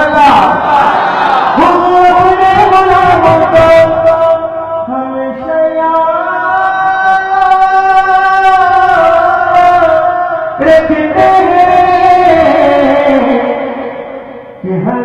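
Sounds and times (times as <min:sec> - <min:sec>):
man singing into microphone: 0:01.6 - 0:15.0.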